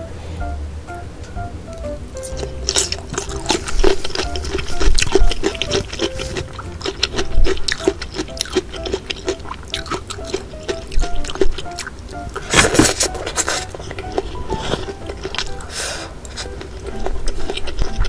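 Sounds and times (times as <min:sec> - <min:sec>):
light background music: 0:00.0 - 0:18.0
wet clicking and squishing of food: 0:02.3 - 0:18.0.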